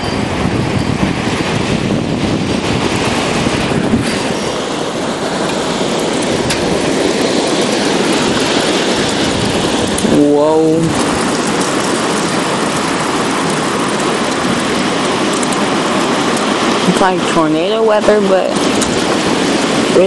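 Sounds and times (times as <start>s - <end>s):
rain: 0.0s - 20.0s
storm wind: 0.0s - 20.0s.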